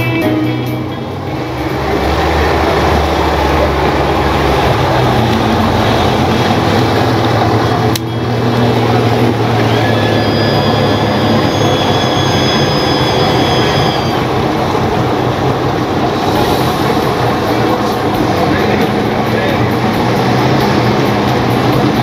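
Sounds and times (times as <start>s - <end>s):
speedboat engine running: 0.0s - 22.0s
rush of wind and water: 1.1s - 22.0s.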